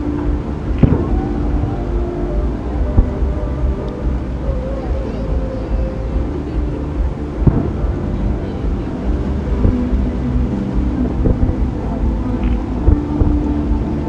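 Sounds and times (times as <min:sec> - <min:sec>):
low rumble with humming tones: 0:00.0 - 0:14.0.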